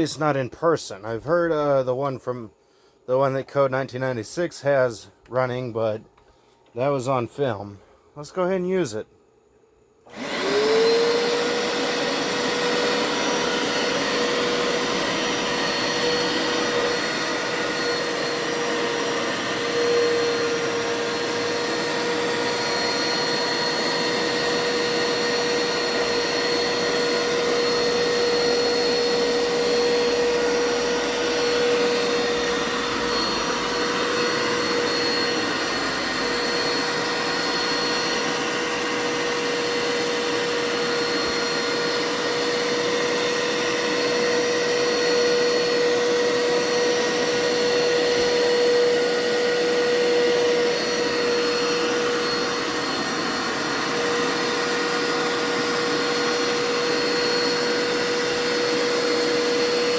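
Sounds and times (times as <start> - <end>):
carpet cleaner motor whining and humming: 10.0 - 59.9.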